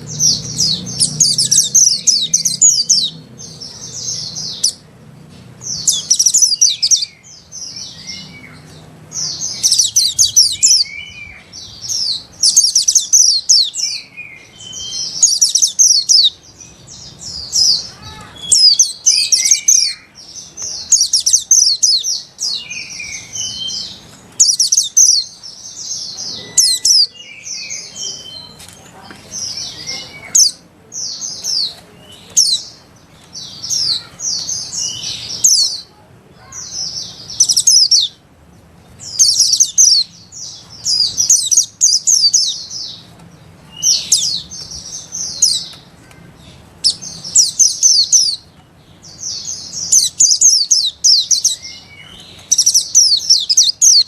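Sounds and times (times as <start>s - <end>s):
birds twittering high-pitched: 0.0s - 54.0s.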